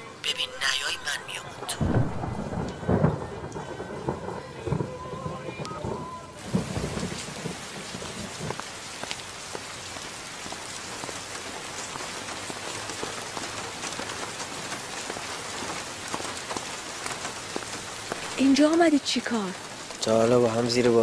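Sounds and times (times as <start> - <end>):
raindrops hitting close by: 0.0 - 21.0
steady rain: 0.0 - 21.0.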